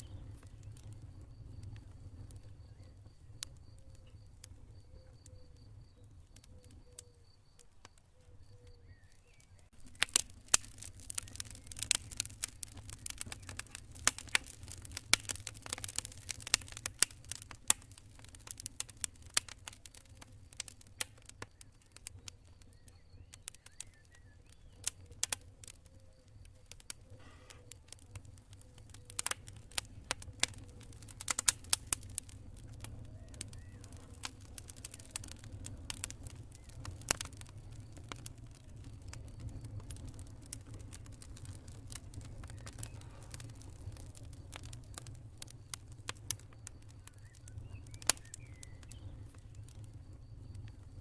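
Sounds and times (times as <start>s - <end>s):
faint high cricket chirping: 0.0s - 51.0s
low fire rumble: 0.0s - 51.0s
wood fire crackling and popping: 0.0s - 51.0s.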